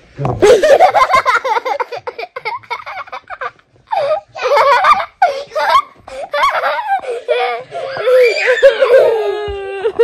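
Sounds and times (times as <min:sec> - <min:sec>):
child laughing: 0:00.4 - 0:10.0.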